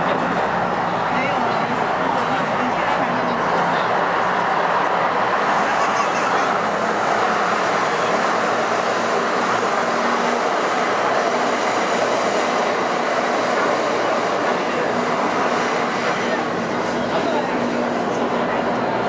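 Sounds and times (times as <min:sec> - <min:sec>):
metro train rumbling on rails: 0:00.0 - 0:19.0.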